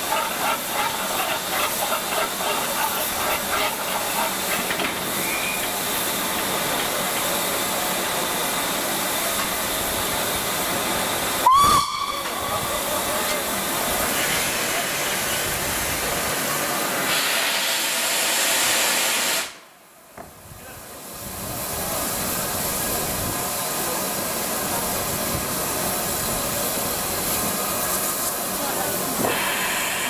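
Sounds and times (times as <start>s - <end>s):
steam locomotive hissing: 0.0s - 19.7s, 20.6s - 30.0s.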